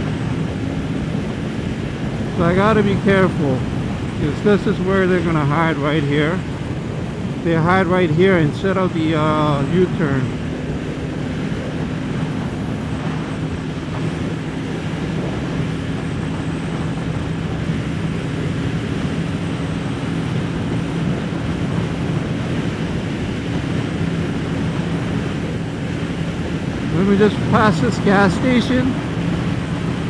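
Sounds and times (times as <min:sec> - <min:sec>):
motorcycle engine cruising: 0:00.0 - 0:30.0
wind and road noise: 0:00.0 - 0:30.0.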